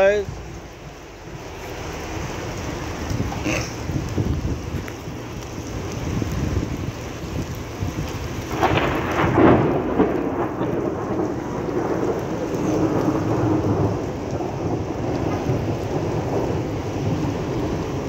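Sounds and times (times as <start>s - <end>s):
rain on wet street: 0.0s - 18.0s.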